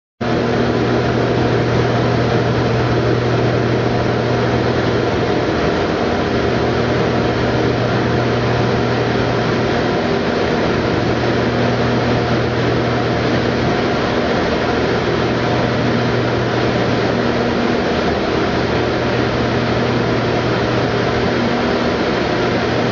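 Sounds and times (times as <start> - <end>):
aircraft engine droning: 0.2 - 22.9
constant rushing noise: 0.3 - 22.9.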